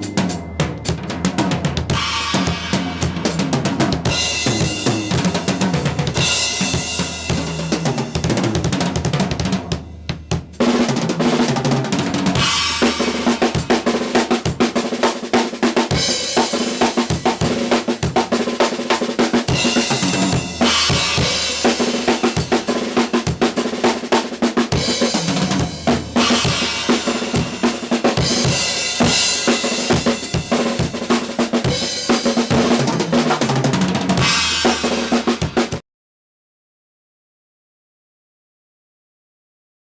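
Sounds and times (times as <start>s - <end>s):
drum kit playing: 0.0s - 35.8s.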